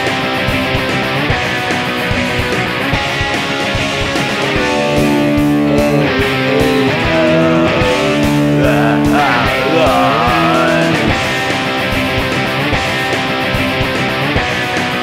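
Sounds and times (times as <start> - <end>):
rock song with guitar: 0.0 - 15.0.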